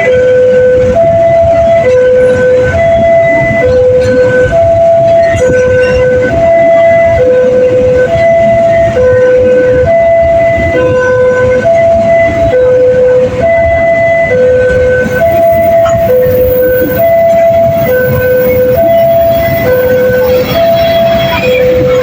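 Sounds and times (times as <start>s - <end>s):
train rumbling past: 0.0s - 22.0s
two-tone crossing warning siren: 0.0s - 22.0s.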